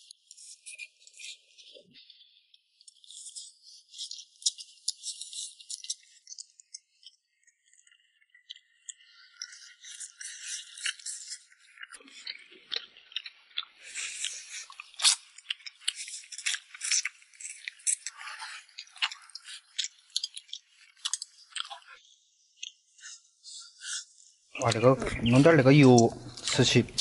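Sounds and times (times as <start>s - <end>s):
chewing and crunching: 0.0s - 27.0s.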